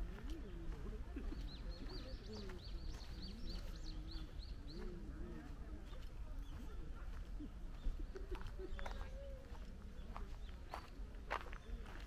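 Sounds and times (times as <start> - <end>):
people talking faintly: 0.0 - 12.0.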